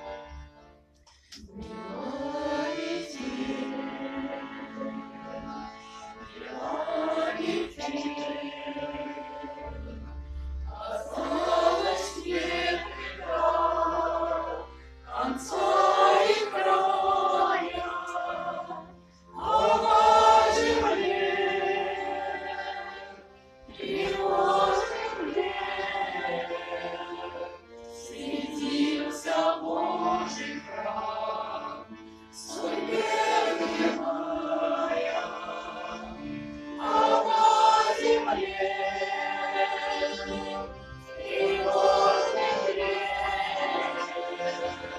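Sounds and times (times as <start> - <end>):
choir singing: 1.3 - 44.9.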